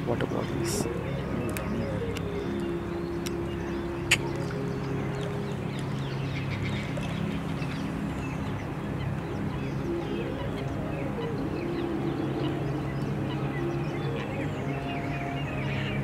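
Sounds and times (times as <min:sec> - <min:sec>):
birds calling: 0:00.0 - 0:16.0
steady low held tones: 0:00.0 - 0:16.0.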